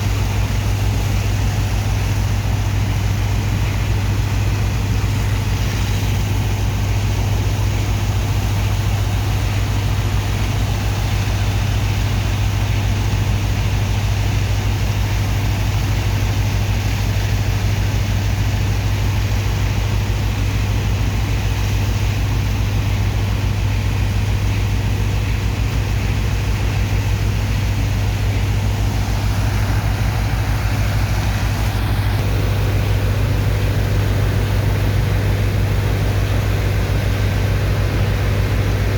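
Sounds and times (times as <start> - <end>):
pump engine droning: 0.0 - 38.9.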